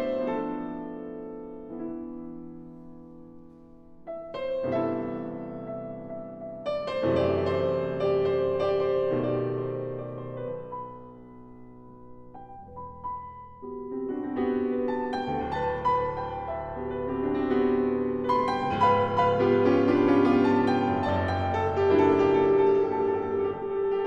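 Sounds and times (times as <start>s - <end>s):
background piano music: 0.0s - 24.0s.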